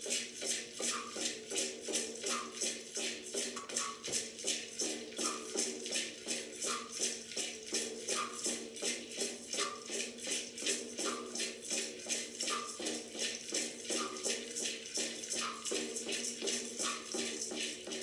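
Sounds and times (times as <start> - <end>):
shaker rattle rhythm: 0.0 - 18.0.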